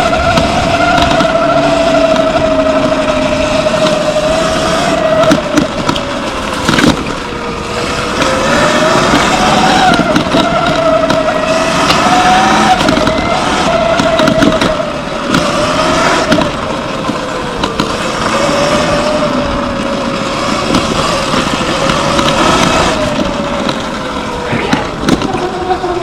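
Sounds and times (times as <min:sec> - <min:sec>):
electric motor whine: 0:00.0 - 0:26.0
steady rushing noise: 0:00.0 - 0:26.0.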